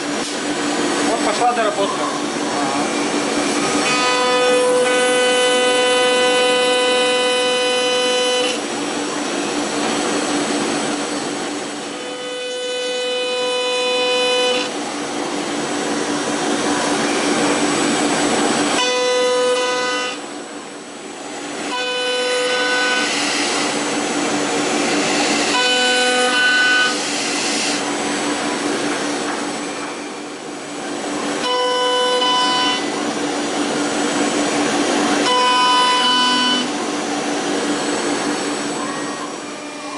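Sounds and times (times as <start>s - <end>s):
milling machine spindle whine: 0.0s - 39.9s
steady machine hum: 0.0s - 39.9s.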